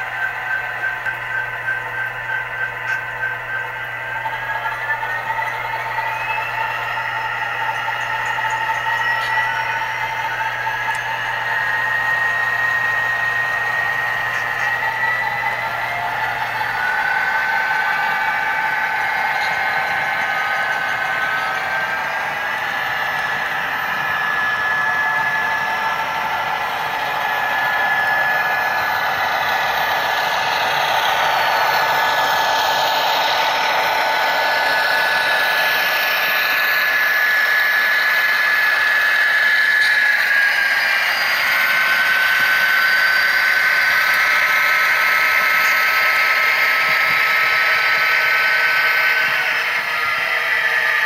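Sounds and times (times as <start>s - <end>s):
model train motor whine: 0.0s - 51.0s.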